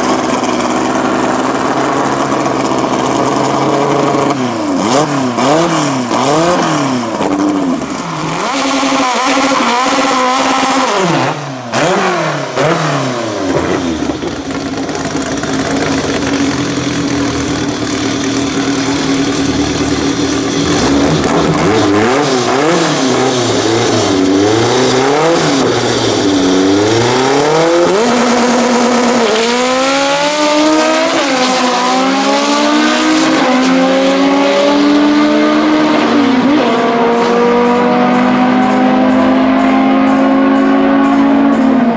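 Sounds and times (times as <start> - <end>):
high-revving car engine: 0.0 - 41.9.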